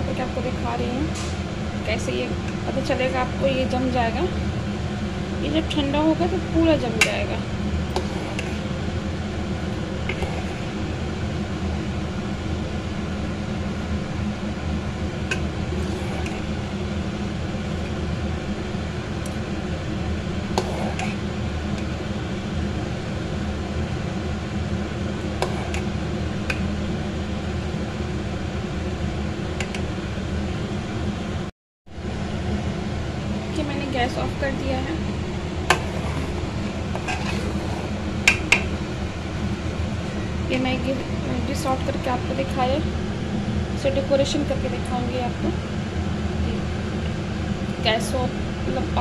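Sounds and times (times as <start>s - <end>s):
low kitchen hum: 0.0s - 49.0s.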